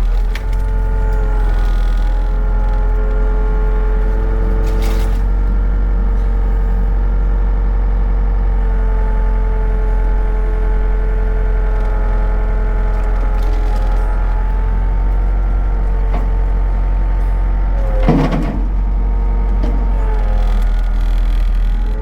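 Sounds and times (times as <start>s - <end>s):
excavator diesel engine running: 0.0s - 22.0s
hydraulics cycling: 0.0s - 22.0s.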